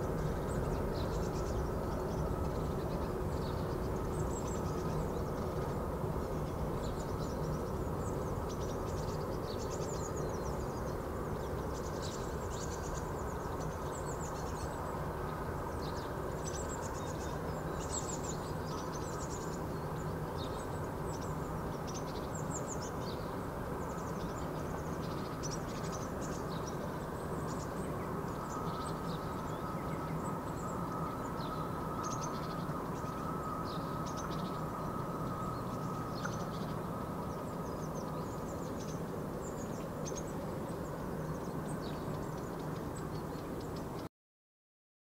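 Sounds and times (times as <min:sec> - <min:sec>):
low background rumble: 0:00.0 - 0:44.1
small birds chirping: 0:00.0 - 0:44.1.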